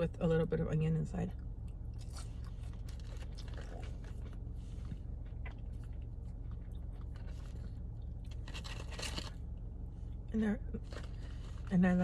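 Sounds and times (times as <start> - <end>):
steady low hum: 0.0 - 12.0
chewing food: 1.3 - 12.0.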